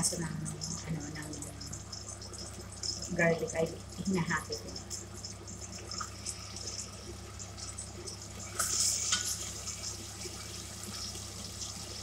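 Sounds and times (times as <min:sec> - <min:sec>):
ginger sizzling in hot oil: 0:00.0 - 0:12.0
low steady hum: 0:00.0 - 0:12.0.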